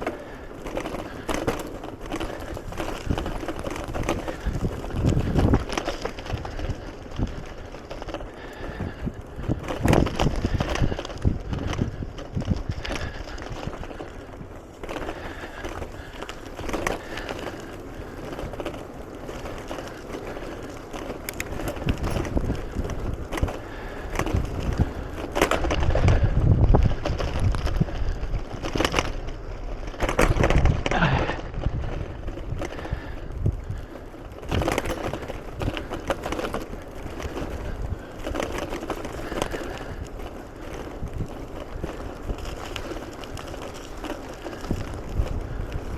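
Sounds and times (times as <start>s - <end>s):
bicycle tyre noise on trail: 0.0s - 45.9s
bike rattling and knocking: 0.0s - 45.9s.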